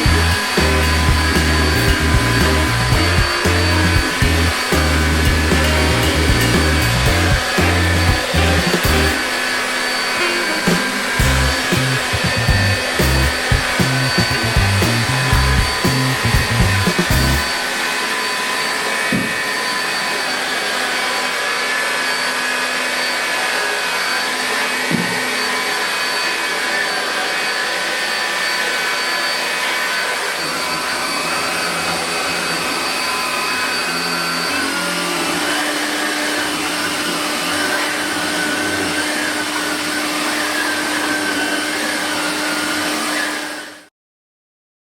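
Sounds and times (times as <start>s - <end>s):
stick vacuum running with motor whine: 0.0s - 43.9s.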